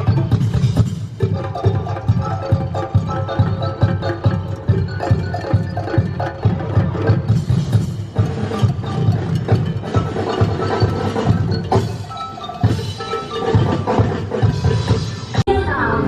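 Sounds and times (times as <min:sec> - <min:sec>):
drummers playing fast rhythm: 0:00.0 - 0:15.4
music: 0:00.0 - 0:16.0.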